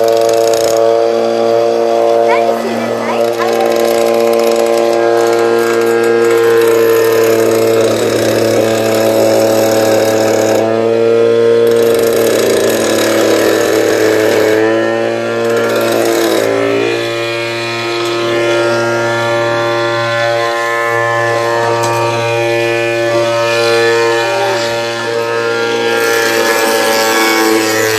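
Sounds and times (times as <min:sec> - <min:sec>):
metal cutting wheel whining: 0:00.0 - 0:27.9.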